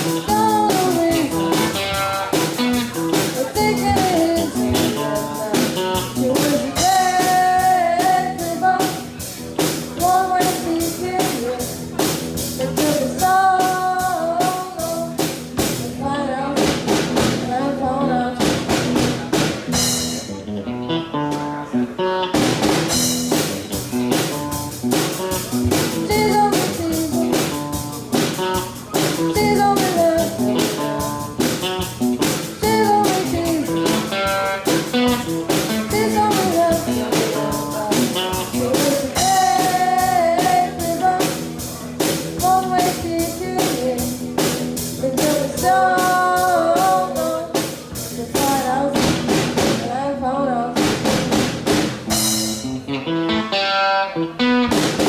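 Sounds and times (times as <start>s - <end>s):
drum kit: 0.0s - 17.8s, 18.4s - 20.5s, 21.1s - 50.0s, 50.8s - 53.7s, 54.4s - 55.0s
person singing: 0.0s - 18.9s, 24.3s - 51.2s
electric guitar: 0.0s - 55.0s.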